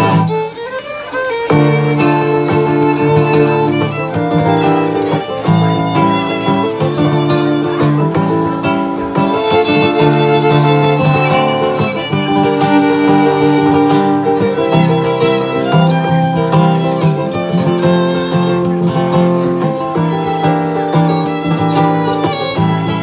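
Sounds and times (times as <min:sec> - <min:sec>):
acoustic guitar accompaniment: 0:00.0 - 0:23.0
violin melody: 0:00.0 - 0:23.0.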